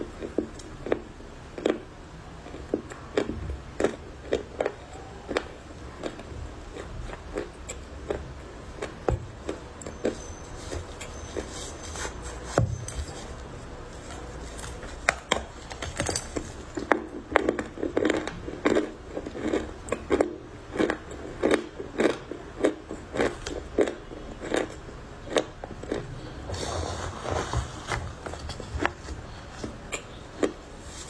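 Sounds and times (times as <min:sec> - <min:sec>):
crunchy clay chewing: 0:00.0 - 0:31.0.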